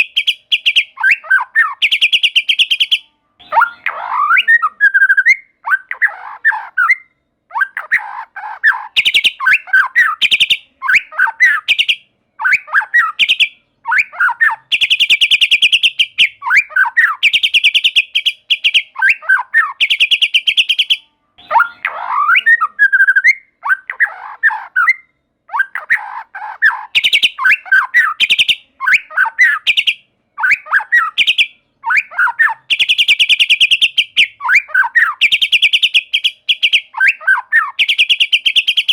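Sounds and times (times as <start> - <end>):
bird singing with rattling trills: 0.0 - 38.9.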